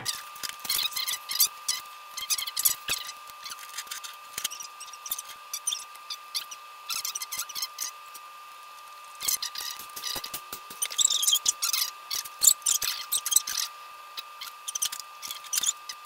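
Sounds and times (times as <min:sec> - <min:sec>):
high-pitched squeaks and ticks: 0:00.0 - 0:08.0, 0:09.2 - 0:16.0.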